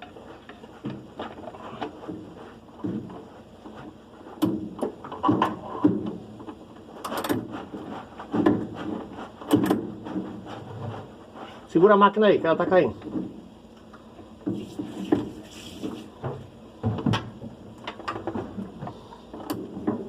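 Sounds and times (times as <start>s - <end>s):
knocks and scrapes of washing machine parts: 0.0s - 11.7s, 13.0s - 13.5s, 14.2s - 20.0s.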